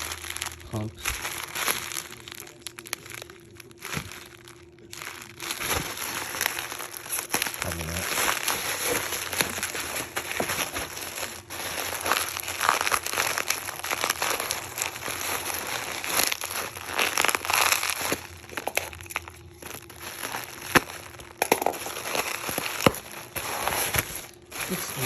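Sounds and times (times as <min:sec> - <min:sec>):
packaging crinkling and rustling: 0:00.0 - 0:25.0.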